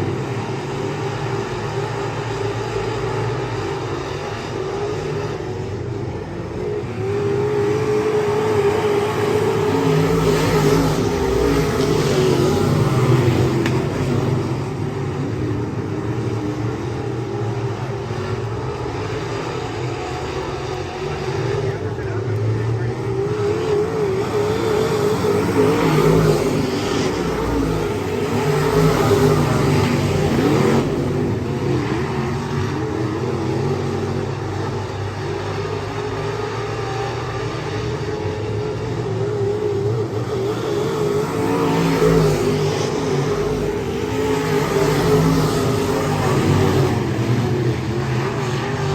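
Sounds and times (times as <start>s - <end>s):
race car engine droning: 0.0s - 48.9s.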